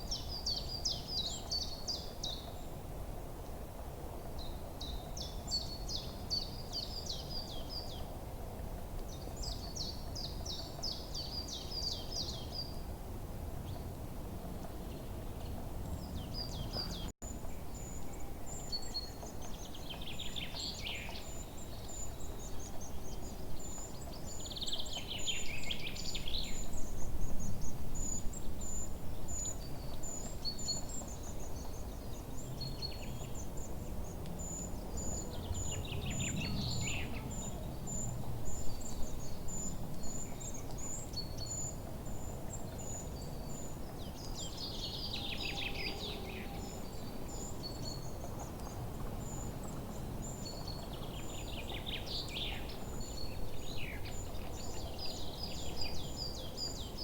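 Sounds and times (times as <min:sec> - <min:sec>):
songbirds singing: 0:00.0 - 0:02.8, 0:09.0 - 0:12.9, 0:14.6 - 0:57.0.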